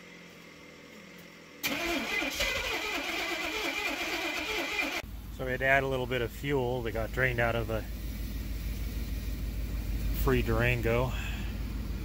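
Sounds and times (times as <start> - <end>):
vehicle engine starting and running: 0.0 - 12.0.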